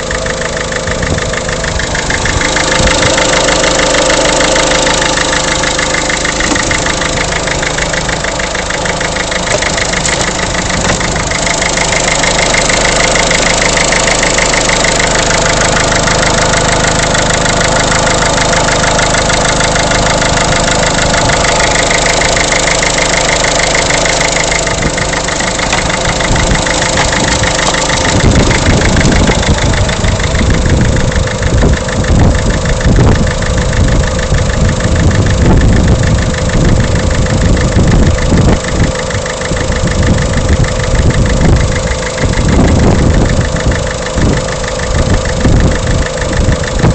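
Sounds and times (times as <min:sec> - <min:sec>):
diesel engine idling: 0:00.0 - 0:46.9
rough low rumble: 0:00.0 - 0:46.9.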